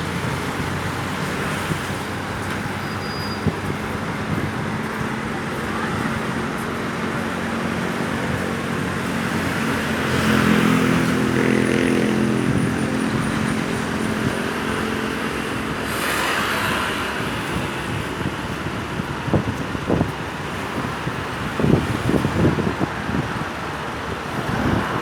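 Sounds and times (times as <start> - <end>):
engine running steadily: 0.0 - 25.0
vehicles passing: 0.0 - 25.0.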